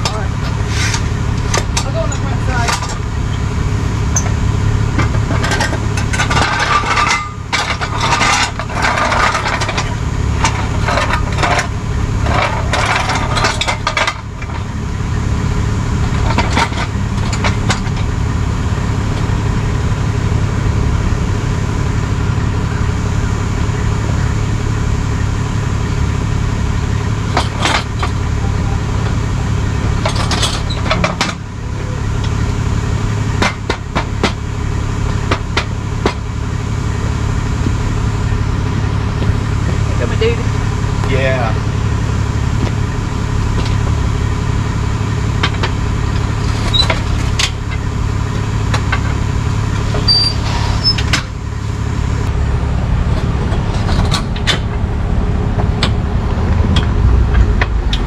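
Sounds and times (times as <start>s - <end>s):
metallic clanking and rattling: 0.0s - 58.0s
truck engine idling: 0.0s - 58.0s.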